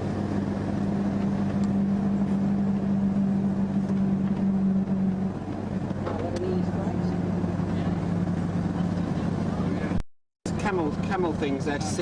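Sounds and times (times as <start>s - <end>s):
road noise: 0.0s - 12.0s
vehicle engine drone inside cabin: 0.0s - 12.0s.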